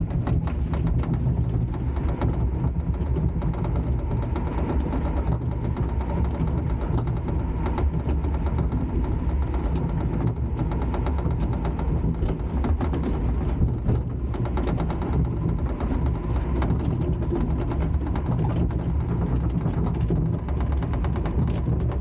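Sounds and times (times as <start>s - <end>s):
low mechanical rumble: 0.0s - 22.0s
rapid irregular clacking: 0.0s - 22.0s.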